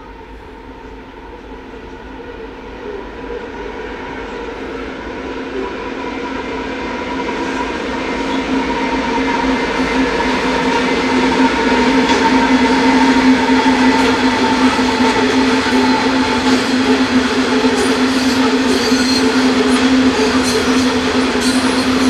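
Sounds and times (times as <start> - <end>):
diesel locomotive engines droning: 0.0 - 22.0.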